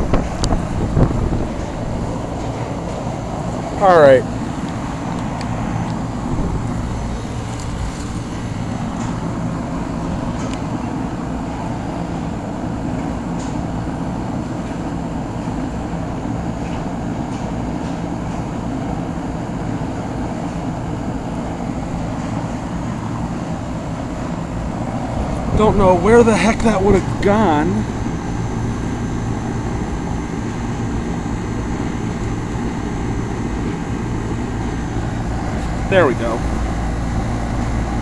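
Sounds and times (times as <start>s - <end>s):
heat pump humming: 0.0s - 38.0s.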